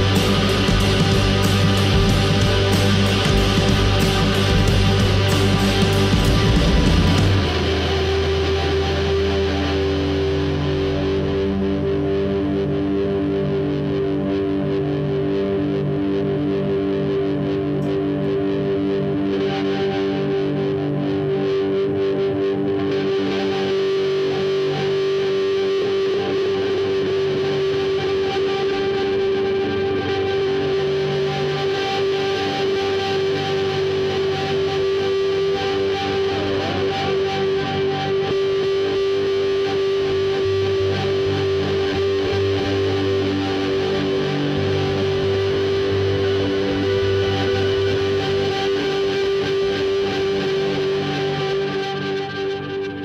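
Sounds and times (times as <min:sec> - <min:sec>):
electric guitar through effects: 0:00.0 - 0:53.0
steady held drone note: 0:00.0 - 0:53.0.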